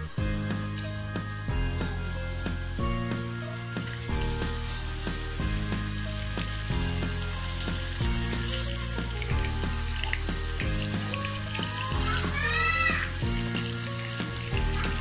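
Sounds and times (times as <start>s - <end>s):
background music with bass: 0.0s - 15.0s
hot oil sizzling: 0.0s - 15.0s.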